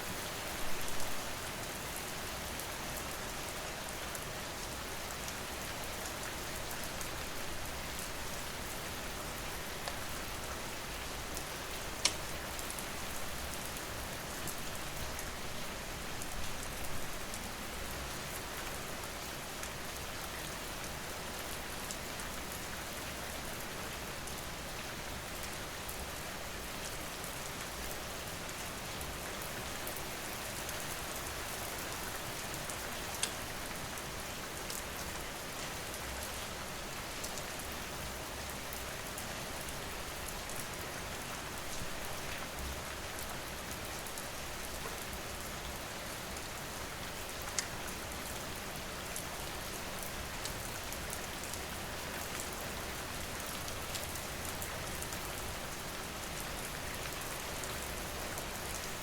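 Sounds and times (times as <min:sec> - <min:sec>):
rain falling on surfaces: 0:00.0 - 0:59.0.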